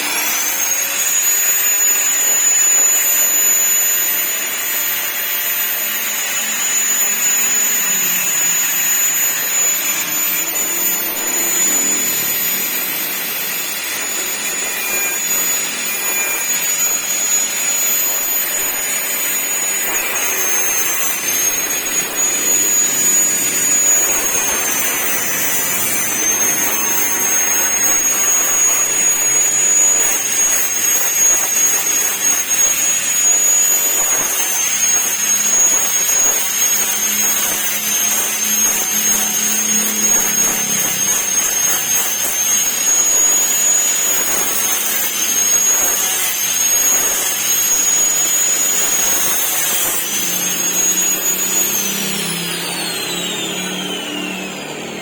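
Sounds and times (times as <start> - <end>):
power tool high whine: 0.0 - 55.0.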